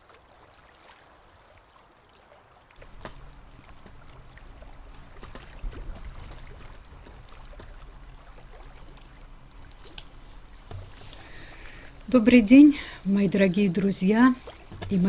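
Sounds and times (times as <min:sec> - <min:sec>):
small waves lapping and splashing: 0:00.0 - 0:15.0
low hum: 0:02.8 - 0:15.0.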